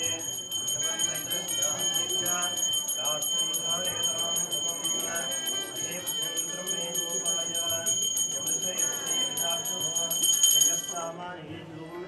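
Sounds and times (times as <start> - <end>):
hand bell ringing rapidly: 0.0 - 11.1
people chanting: 0.0 - 12.0.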